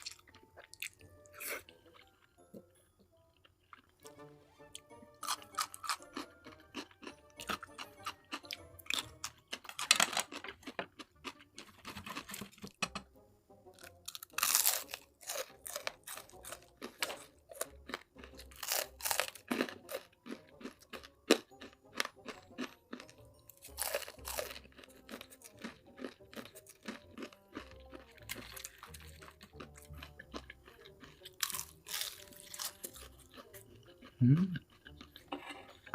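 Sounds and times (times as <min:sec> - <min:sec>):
person chewing crunchy food: 0:00.0 - 0:12.7, 0:13.8 - 0:35.9.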